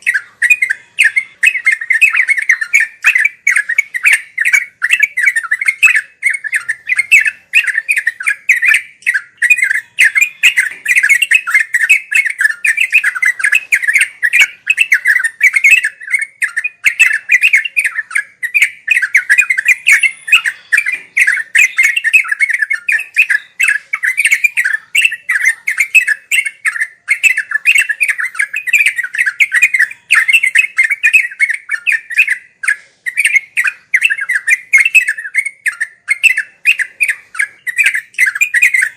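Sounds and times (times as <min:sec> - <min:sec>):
bird singing rapid bubbling chatter: 0:00.0 - 0:38.9.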